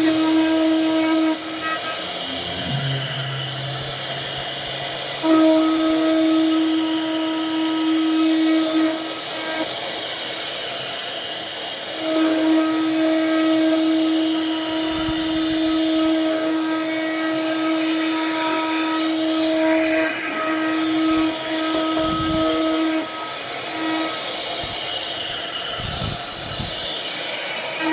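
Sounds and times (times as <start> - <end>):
woodworking machine motor whine: 0.0 - 27.9.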